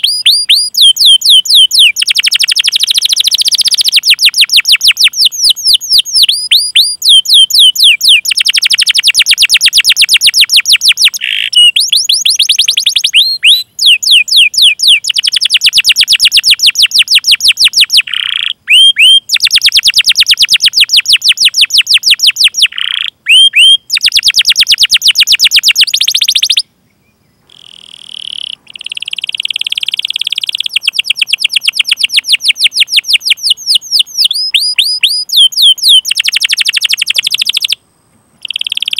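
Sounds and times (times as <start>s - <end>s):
canary chirping and trilling: 0.0s - 26.6s, 27.6s - 37.8s, 38.4s - 38.9s.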